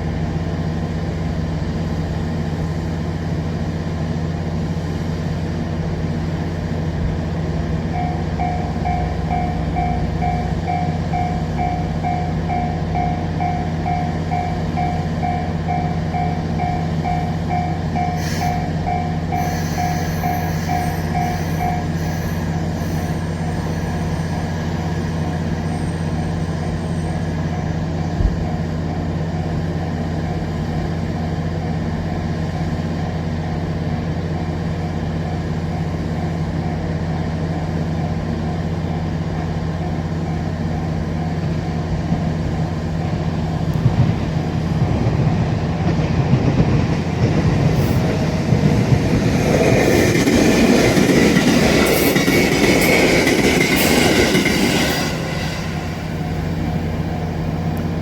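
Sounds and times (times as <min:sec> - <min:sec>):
low hum of train: 0:00.0 - 0:58.0
level-crossing warning bell: 0:07.8 - 0:58.0.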